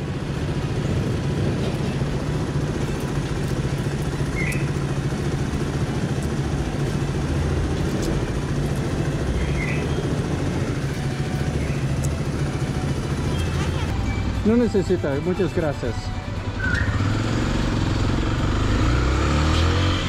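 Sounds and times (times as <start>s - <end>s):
motorcycle engine idling: 0.0s - 18.7s.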